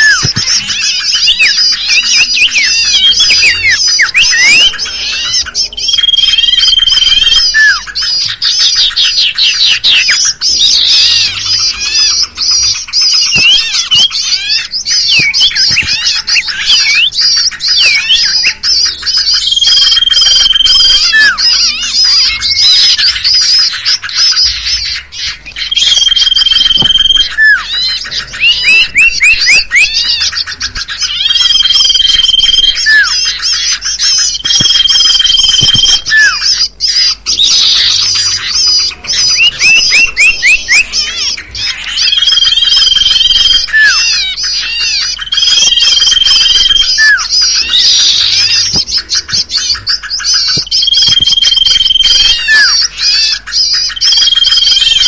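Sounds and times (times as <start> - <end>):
bird chirps: 0.0 - 55.0
high bird chatter: 0.0 - 55.0
high bird whistle: 0.0 - 55.0.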